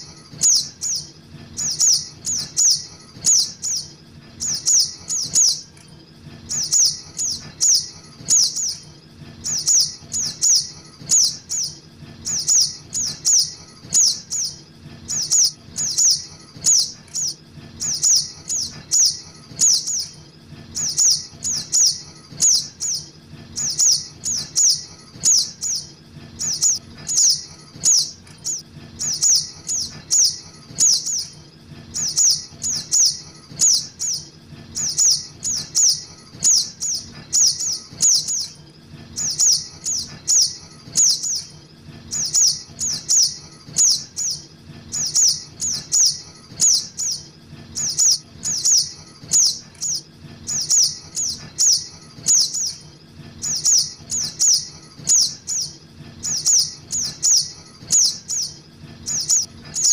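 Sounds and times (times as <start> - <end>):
high sharp bird chirps: 0.0 - 5.7, 6.4 - 38.6, 39.2 - 41.5, 42.1 - 52.8, 53.4 - 59.9.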